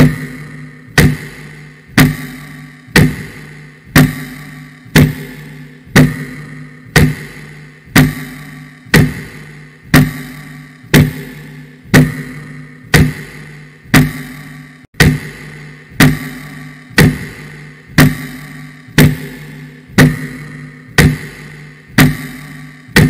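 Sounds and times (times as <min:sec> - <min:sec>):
sharp beat hits: 0:00.0 - 0:23.0
steady low drone: 0:00.0 - 0:23.0.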